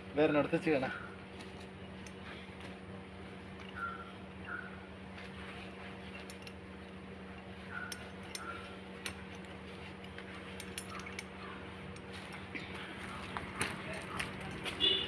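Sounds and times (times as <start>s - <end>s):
low hum: 0.9s - 15.0s
harness buckles clicking: 1.4s - 2.7s, 3.5s - 15.0s.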